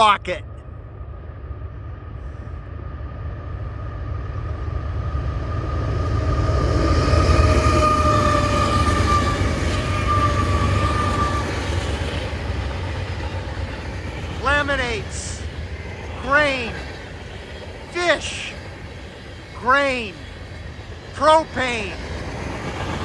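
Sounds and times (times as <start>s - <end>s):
diesel locomotive rumble: 0.0s - 23.0s
locomotive whine: 0.0s - 23.0s.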